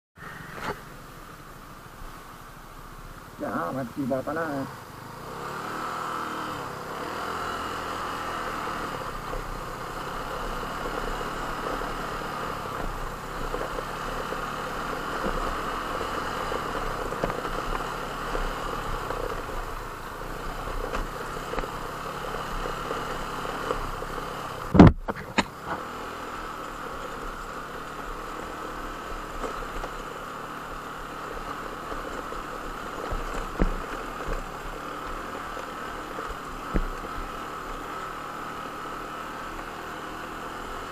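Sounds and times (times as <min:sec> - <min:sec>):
engine running: 0:00.2 - 0:40.9.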